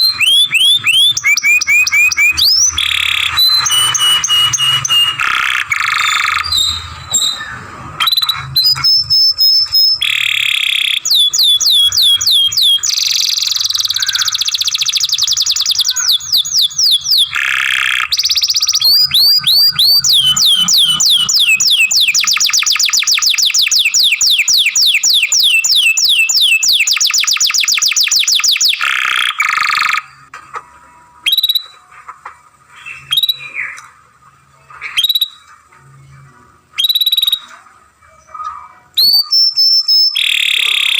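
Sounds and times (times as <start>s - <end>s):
canary singing fast trills: 0.0s - 30.3s, 31.2s - 31.9s, 32.7s - 33.8s, 34.7s - 35.6s, 36.6s - 40.9s.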